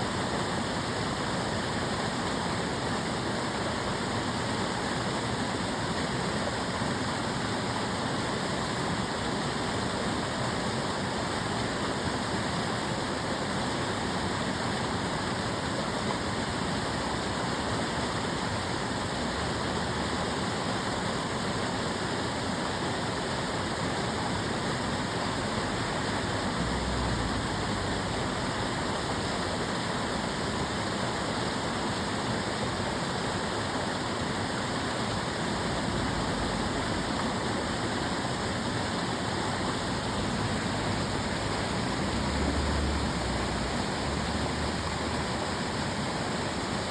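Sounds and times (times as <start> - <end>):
canal water rushing: 0.0 - 46.9.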